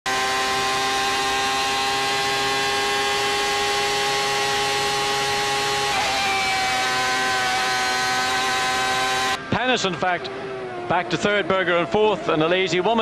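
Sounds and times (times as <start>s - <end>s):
racing car engine at high revs: 0.1s - 13.0s.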